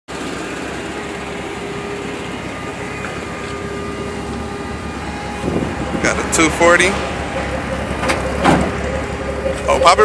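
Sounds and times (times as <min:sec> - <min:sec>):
car engine idling: 0:00.1 - 0:10.0.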